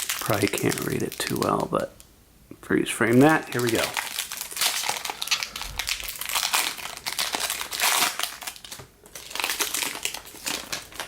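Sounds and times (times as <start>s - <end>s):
foil wrapper crinkling: 0.0s - 1.9s, 3.0s - 11.0s.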